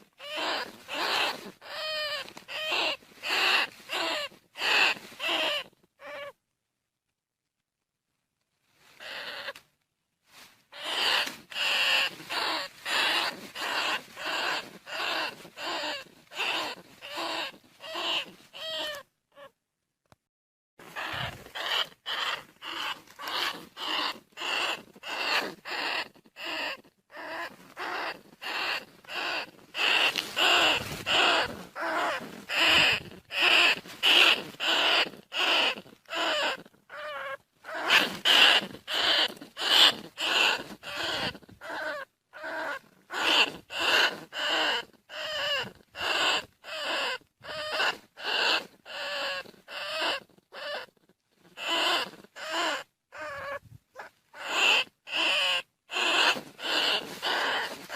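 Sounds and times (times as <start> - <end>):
rat squeaks: 0.0 - 6.4, 9.0 - 9.6, 10.7 - 19.5, 20.8 - 57.9.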